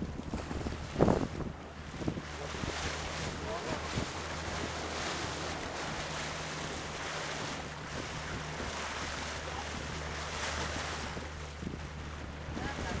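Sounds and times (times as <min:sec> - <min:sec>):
low motor hum: 0:00.0 - 0:13.0
water splashing along hull: 0:00.0 - 0:13.0
wind buffeting microphone: 0:00.0 - 0:13.0.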